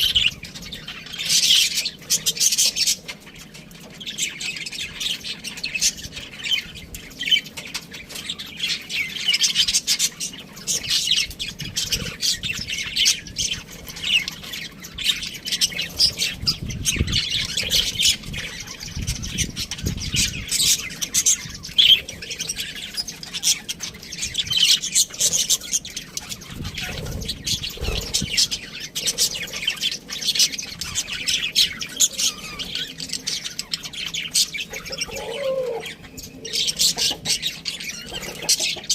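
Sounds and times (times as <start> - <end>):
budgerigars chirping and squawking: 0.0 - 38.9.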